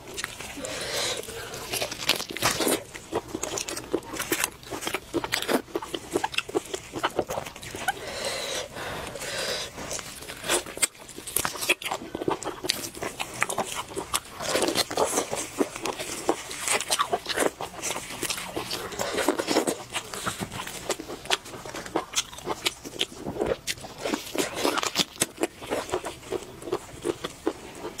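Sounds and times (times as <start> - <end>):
person chewing and crunching: 0.0 - 28.0.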